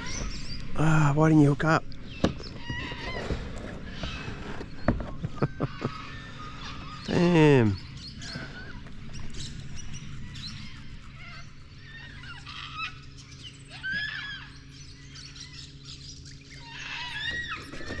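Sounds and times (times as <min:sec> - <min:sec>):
steady low hum: 0:00.0 - 0:18.0
wild birds calling and chirping: 0:00.0 - 0:18.0.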